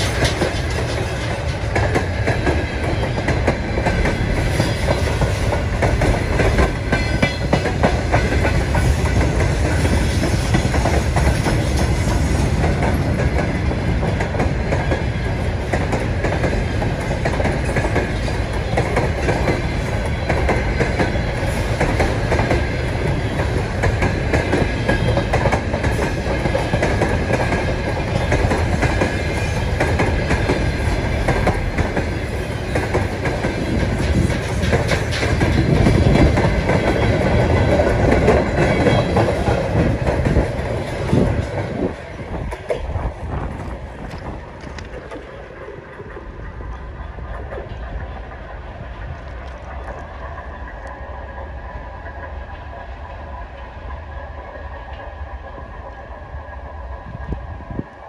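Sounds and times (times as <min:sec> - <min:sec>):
wheels clicking over rail joints: 0:00.0 - 0:51.2
train wheels rumbling on rails: 0:00.0 - 0:58.0.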